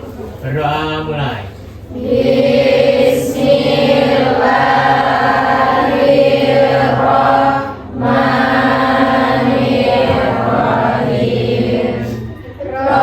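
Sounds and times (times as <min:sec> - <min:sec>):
group of voices chanting a prayer: 0:01.9 - 0:13.0.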